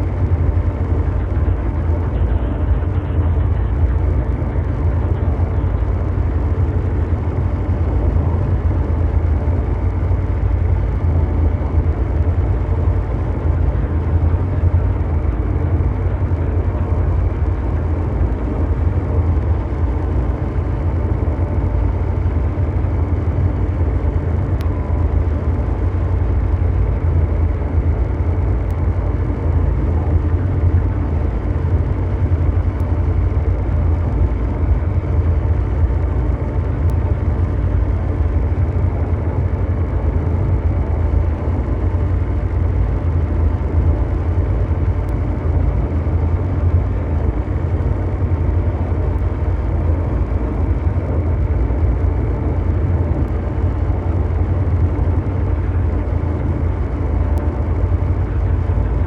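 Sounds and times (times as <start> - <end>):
deep mechanical rumble: 0.0 - 59.0
faint hums: 0.0 - 59.0.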